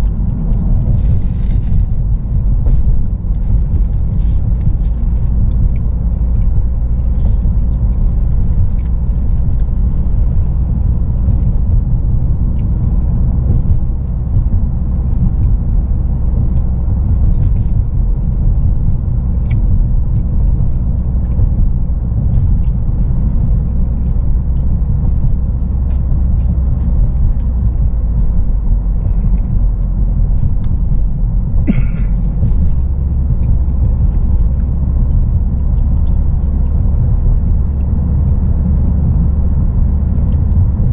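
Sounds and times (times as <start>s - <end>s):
road and engine noise in car cabin: 0.0s - 40.9s.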